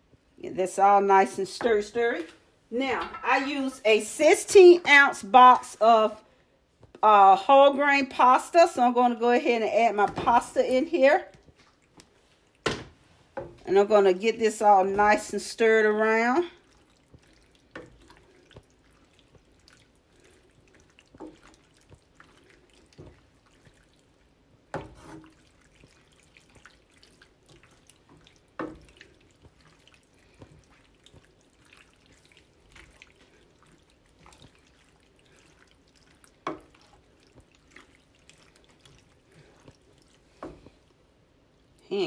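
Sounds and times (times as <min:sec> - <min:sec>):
spatula stirring pasta in sauce: 0:02.8 - 0:41.5.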